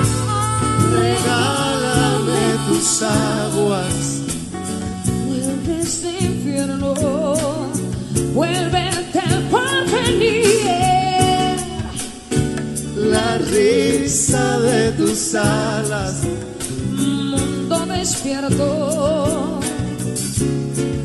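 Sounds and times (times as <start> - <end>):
man and woman singing: 0.0 - 4.5, 5.2 - 12.3, 12.9 - 19.8
bass: 0.0 - 21.0
drums keeping a steady beat: 0.0 - 21.0.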